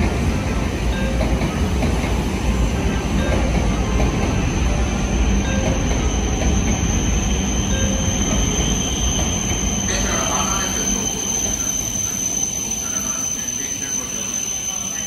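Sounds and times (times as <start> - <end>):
electric train running on rails: 0.0 - 15.0.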